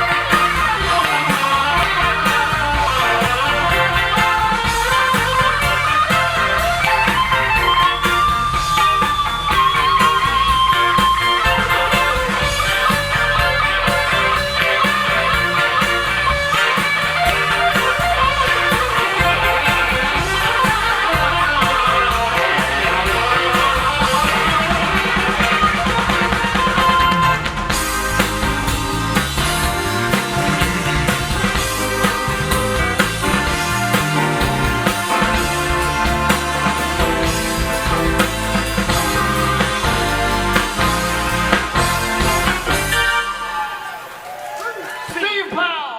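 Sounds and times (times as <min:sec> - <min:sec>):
rock band playing: 0:00.0 - 0:45.2.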